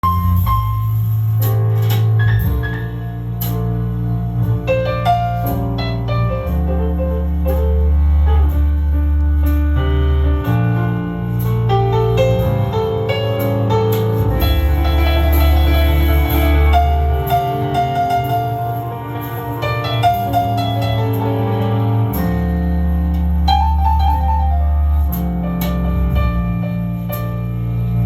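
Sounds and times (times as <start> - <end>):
piano music over deep bass: 0.0 - 28.0.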